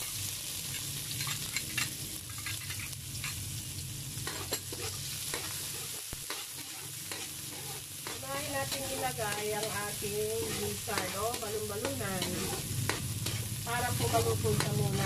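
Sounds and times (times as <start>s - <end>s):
onion sizzling in hot oil: 0.0s - 15.0s
metal spoon scraping wok: 0.7s - 3.4s, 4.2s - 15.0s.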